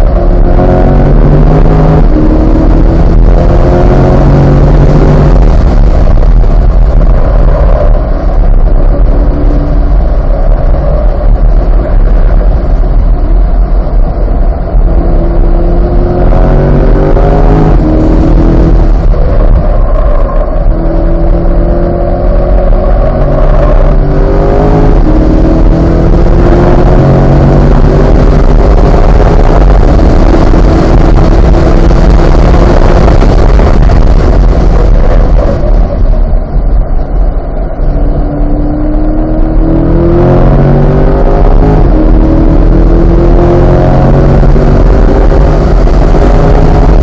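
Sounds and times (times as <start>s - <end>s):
car engine accelerating: 0.0s - 47.0s
road and wind noise: 0.0s - 47.0s.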